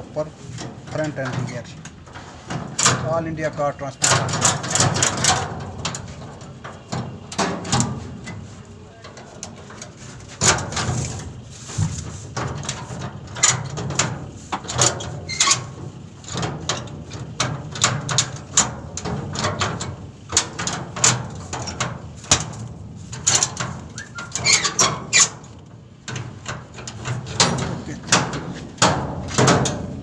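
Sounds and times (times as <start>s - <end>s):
wheel restraint clicks and rattles: 0.5s - 8.5s, 9.1s - 30.0s.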